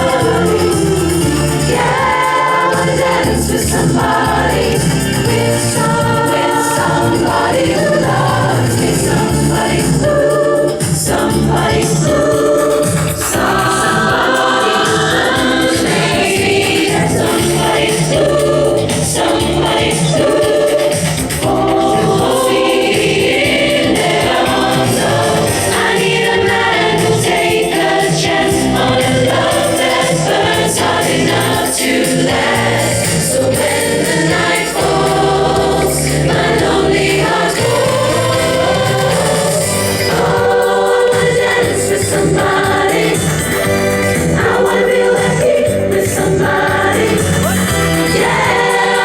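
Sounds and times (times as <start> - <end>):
gospel choir singing with beat: 0.0 - 49.0.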